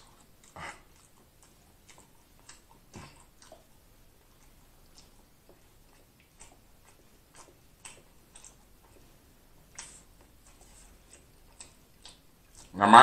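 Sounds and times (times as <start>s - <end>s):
man chewing with wet clicks: 0.0s - 13.0s.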